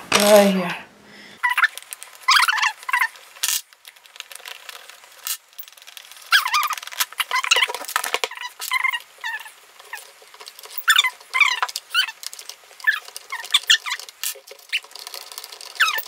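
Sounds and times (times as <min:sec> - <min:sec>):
rubber and plastic squeaking: 0:01.4 - 0:16.0.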